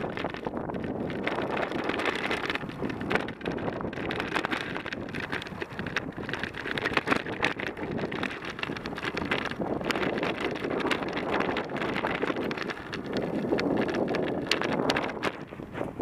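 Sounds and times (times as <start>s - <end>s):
tyres crunching over rough ground: 0.0s - 16.0s
wind buffeting microphone: 0.0s - 16.0s.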